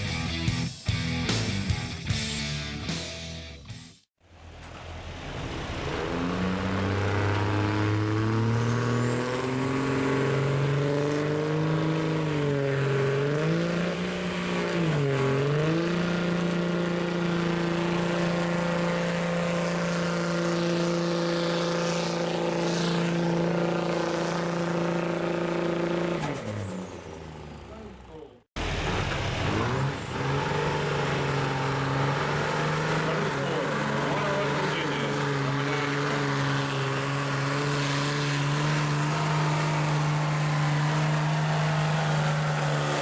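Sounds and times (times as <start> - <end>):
diesel truck engine revving: 4.3 - 43.0.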